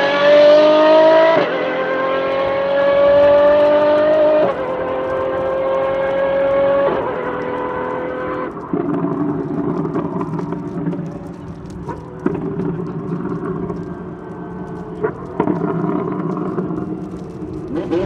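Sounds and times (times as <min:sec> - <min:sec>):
exhaust cracks: 0:00.0 - 0:18.0.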